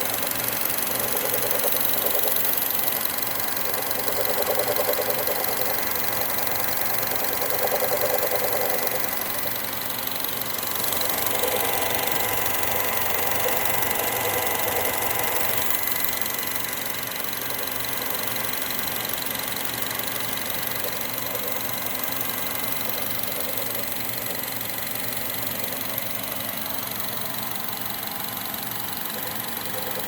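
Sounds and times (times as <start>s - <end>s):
car engine running: 0.0s - 30.0s
fast even ticking knock: 0.0s - 30.0s.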